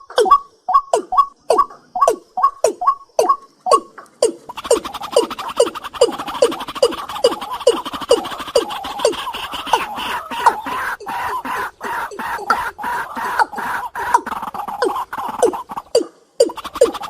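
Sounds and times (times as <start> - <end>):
night bird calling: 0.0 - 17.0.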